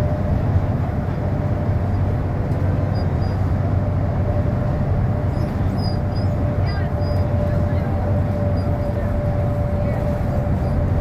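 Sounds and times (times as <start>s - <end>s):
bus engine and road rumble: 0.0s - 11.0s
constant low hum: 0.0s - 11.0s.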